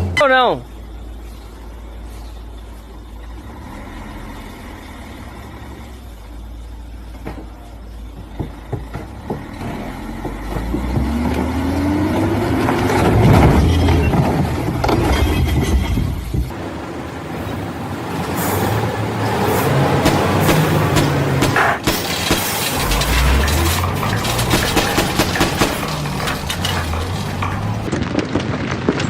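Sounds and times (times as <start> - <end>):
truck engine running and revving: 0.0 - 27.9.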